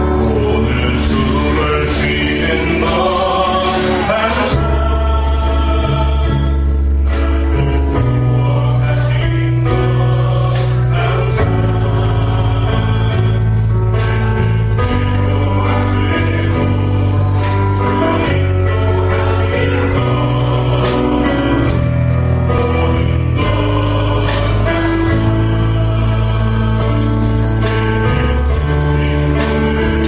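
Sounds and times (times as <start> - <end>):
band playing worship music: 0.0 - 30.0
voices singing together: 0.0 - 30.0.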